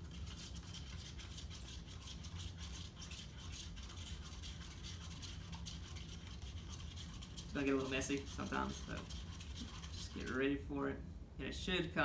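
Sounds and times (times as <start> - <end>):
utensil scraping inside paper cup: 0.0 - 10.5
steady low hum: 0.0 - 12.0.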